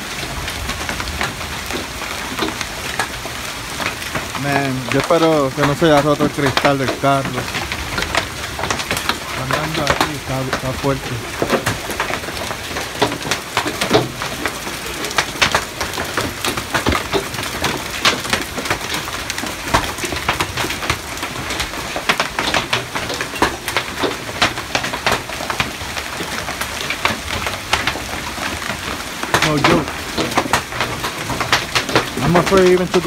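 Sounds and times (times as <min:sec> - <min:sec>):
hail falling: 0:00.0 - 0:33.0
hailstones striking hard surfaces: 0:00.0 - 0:33.0.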